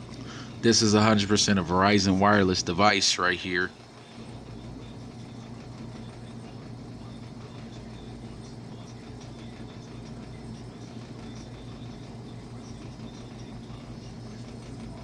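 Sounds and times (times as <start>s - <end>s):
low room tone hum: 0.0s - 15.0s.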